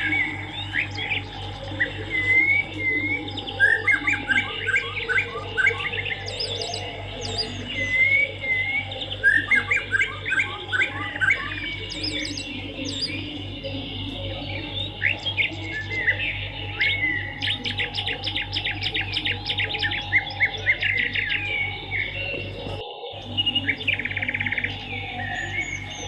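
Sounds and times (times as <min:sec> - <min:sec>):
low hum: 0:00.0 - 0:26.0
rapid twittering chirps: 0:00.0 - 0:26.0
wavering bird whistle: 0:00.0 - 0:26.0.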